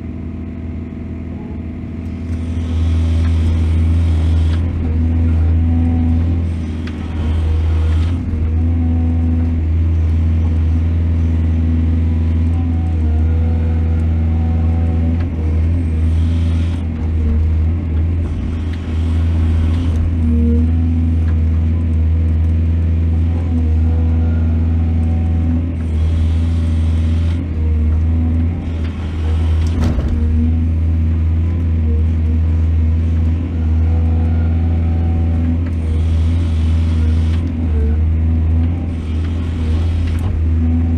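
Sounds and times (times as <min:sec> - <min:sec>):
heavy diesel engine rumbling: 0:00.0 - 0:40.9.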